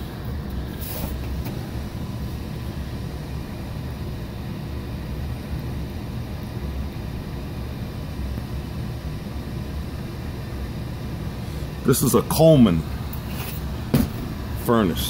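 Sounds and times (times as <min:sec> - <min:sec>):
furnace rumble and hum: 0:00.0 - 0:15.0.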